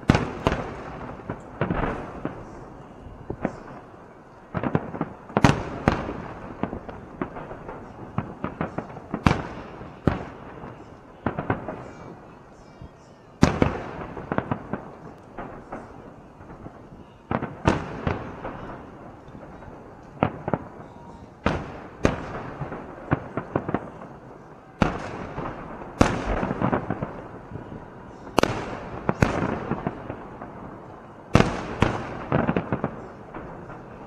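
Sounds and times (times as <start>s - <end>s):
fireworks bangs with crackle: 0.0s - 34.0s.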